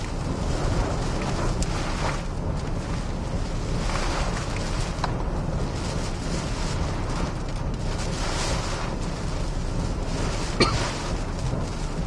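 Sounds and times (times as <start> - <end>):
deep rumble: 0.0 - 12.0
driving rain on a vehicle: 0.0 - 12.0
strong wind buffeting a vehicle: 0.0 - 12.0.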